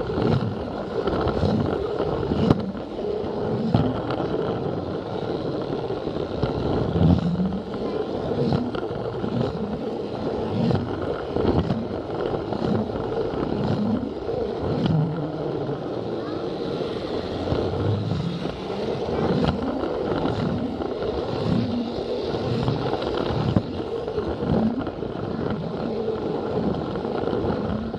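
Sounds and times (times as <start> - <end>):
toy train motor whirring: 0.0 - 27.7
wheels clicking on track: 0.0 - 27.9.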